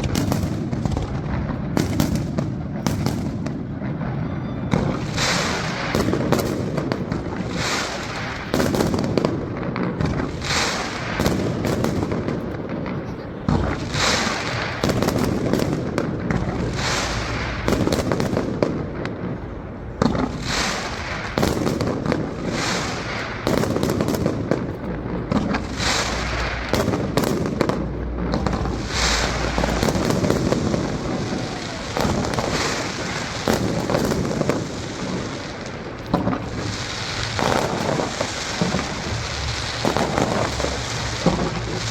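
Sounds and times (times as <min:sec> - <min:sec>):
fireworks bangs: 0:00.0 - 0:41.9
fireworks rumble and crackle: 0:00.0 - 0:41.9.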